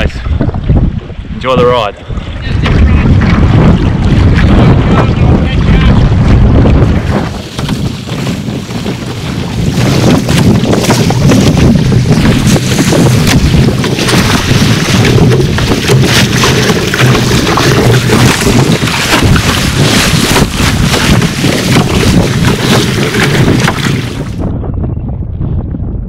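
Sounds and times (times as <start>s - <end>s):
wind buffeting microphone: 0.0s - 26.0s
water rushing and splashing: 1.4s - 24.4s
paddle stroke splashes: 2.1s - 24.4s.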